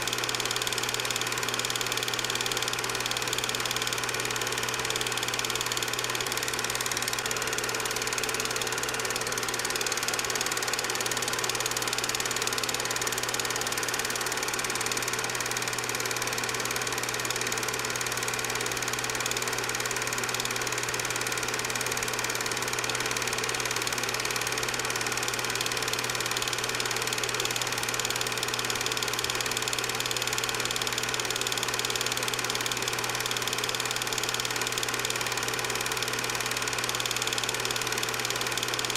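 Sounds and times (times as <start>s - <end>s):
film projector motor hum: 0.0s - 38.9s
film transport chatter: 0.0s - 38.9s.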